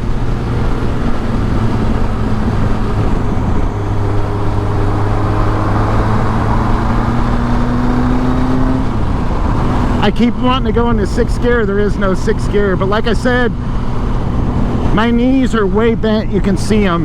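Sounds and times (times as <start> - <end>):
wind rushing past: 0.0 - 16.1
motorcycle engine running: 0.0 - 17.0.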